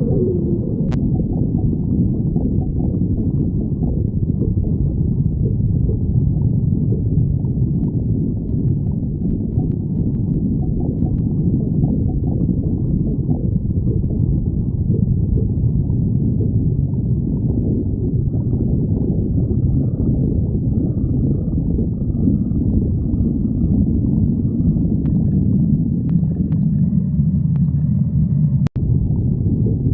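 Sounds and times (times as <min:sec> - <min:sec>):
stomach growling: 0:00.0 - 0:29.9.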